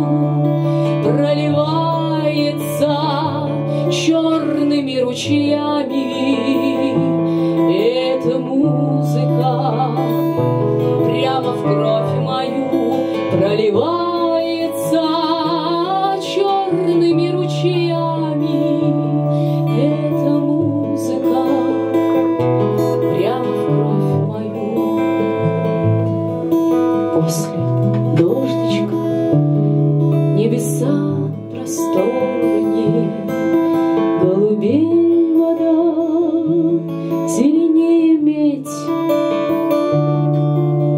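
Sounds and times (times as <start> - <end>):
strummed acoustic guitar: 0.0 - 40.9.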